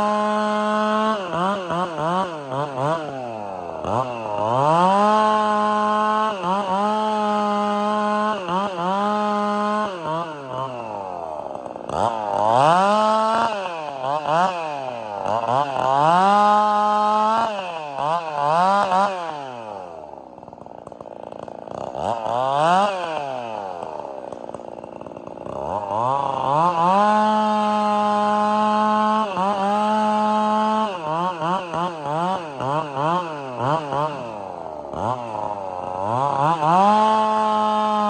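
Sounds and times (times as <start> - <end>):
chainsaw cutting logs: 0.0 - 38.0.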